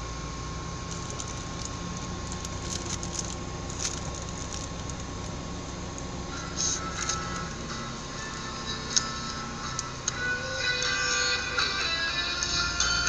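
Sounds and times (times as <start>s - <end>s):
low hum inside car: 0.0s - 13.0s.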